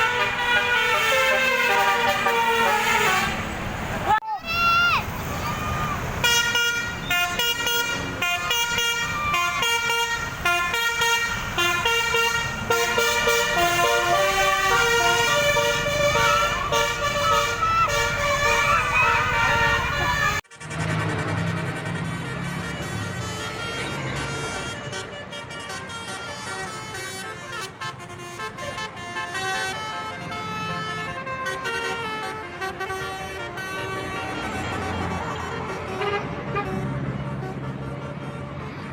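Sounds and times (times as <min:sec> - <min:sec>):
musical bus horn playing a tune: 0:00.0 - 0:03.7, 0:06.2 - 0:20.5, 0:21.5 - 0:38.8.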